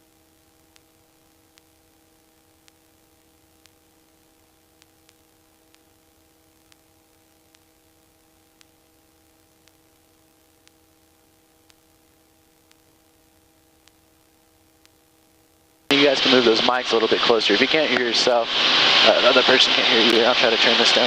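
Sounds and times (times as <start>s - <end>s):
faint electronic hiss: 0.0s - 21.0s
low electrical hum: 0.0s - 21.0s.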